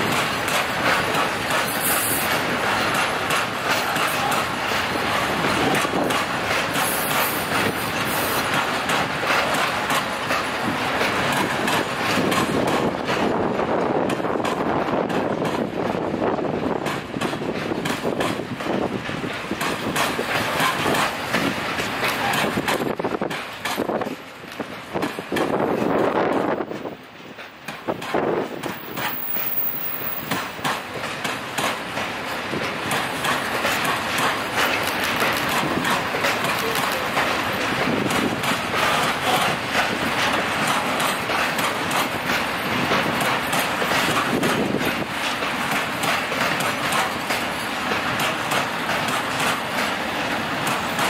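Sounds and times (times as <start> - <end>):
freight train wheels rumbling on rails: 0.0 - 51.0.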